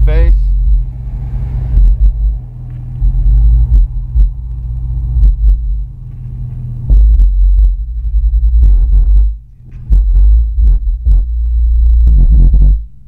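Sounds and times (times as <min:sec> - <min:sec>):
subwoofers playing heavy bass: 0:00.0 - 0:13.0.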